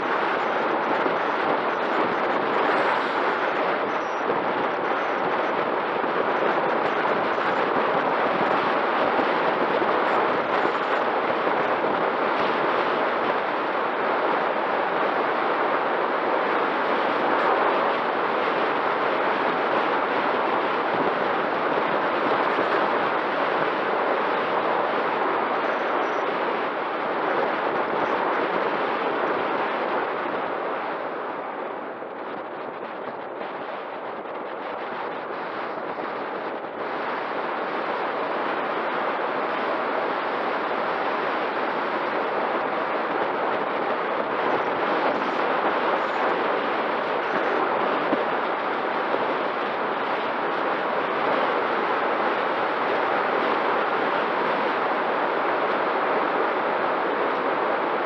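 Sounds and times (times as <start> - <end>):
faint steady whine: 0.0 - 58.0
wind buffeting camera: 0.0 - 58.0.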